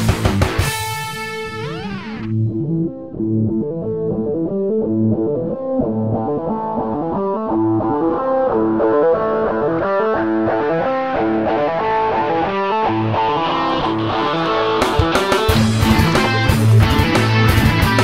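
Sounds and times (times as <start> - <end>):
rock electric guitar music: 0.0 - 18.0.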